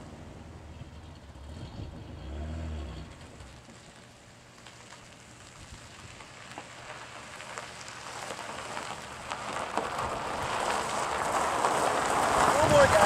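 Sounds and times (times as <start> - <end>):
tyres crunching over gravel: 2.3 - 13.0.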